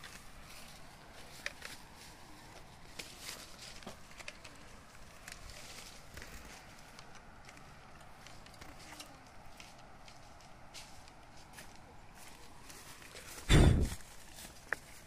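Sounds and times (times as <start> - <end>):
faint footsteps: 0.0 - 15.0.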